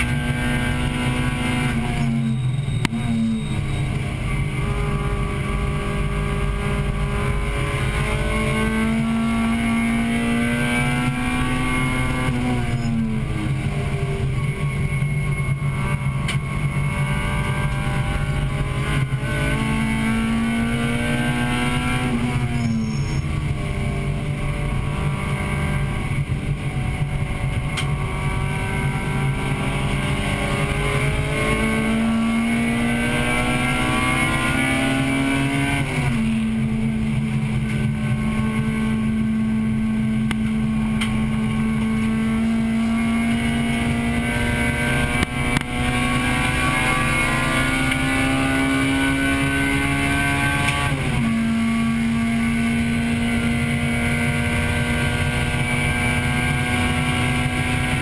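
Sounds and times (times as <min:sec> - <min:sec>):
car engine running hard: 0:00.0 - 0:58.0
road and tyre noise: 0:00.0 - 0:58.0.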